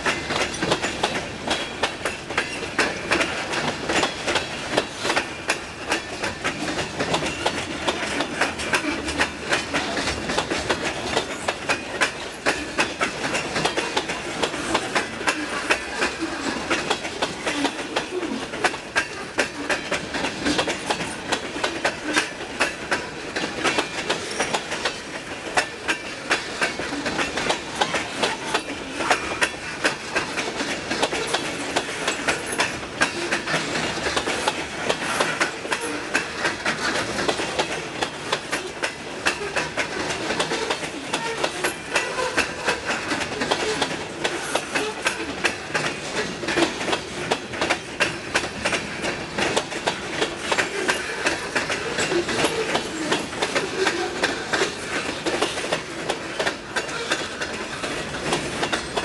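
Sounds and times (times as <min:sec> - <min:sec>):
train rumble: 0:00.0 - 0:59.0
train wheels clattering: 0:00.0 - 0:59.0.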